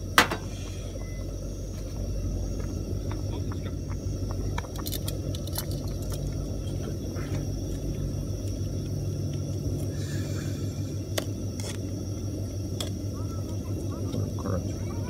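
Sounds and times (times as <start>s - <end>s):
camp stove burning: 0.0s - 15.0s.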